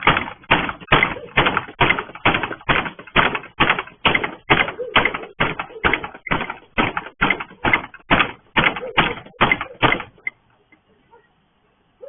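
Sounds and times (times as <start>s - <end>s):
heavy banging on a gate: 0.0s - 10.3s.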